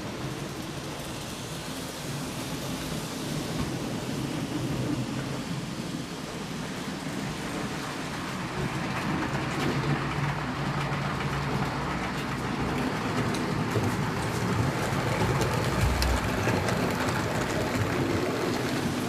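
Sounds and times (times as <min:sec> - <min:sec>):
small wheels rattling on rails: 0:00.0 - 0:19.0.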